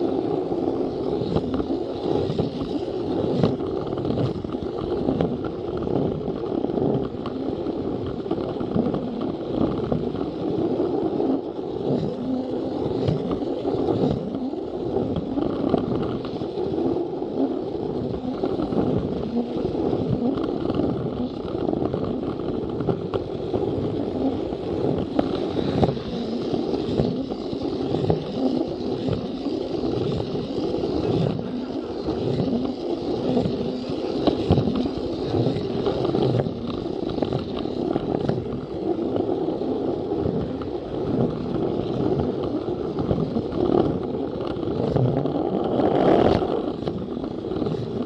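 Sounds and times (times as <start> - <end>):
toy train motor whirring: 0.0 - 48.0
wheels rattling on plastic track: 0.0 - 48.0.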